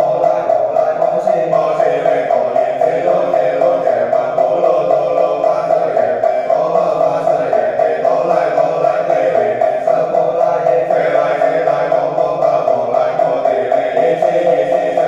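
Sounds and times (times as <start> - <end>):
voices chanting in monotone: 0.0 - 15.0.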